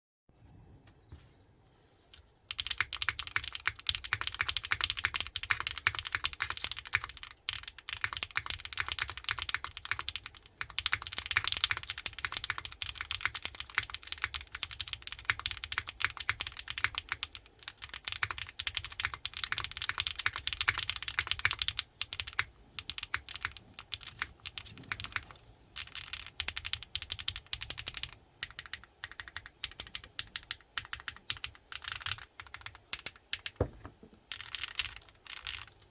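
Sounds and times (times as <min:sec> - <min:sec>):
mechanical keyboard typing: 0:02.5 - 0:35.9.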